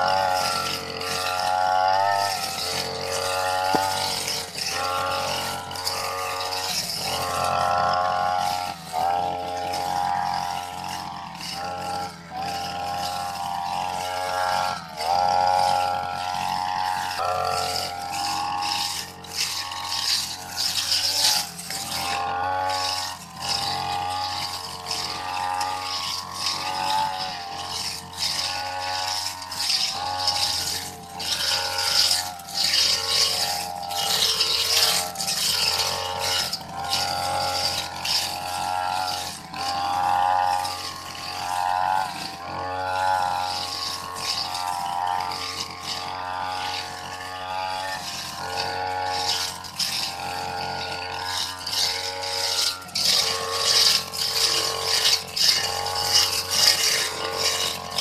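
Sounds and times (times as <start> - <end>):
brush cutter engine: 0.0 - 58.0.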